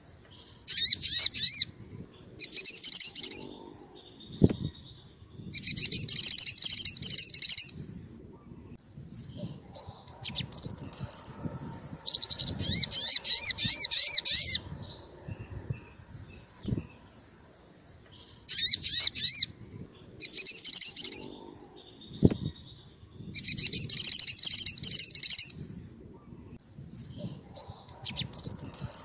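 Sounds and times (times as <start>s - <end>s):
sunbird calling: 0.0s - 29.0s.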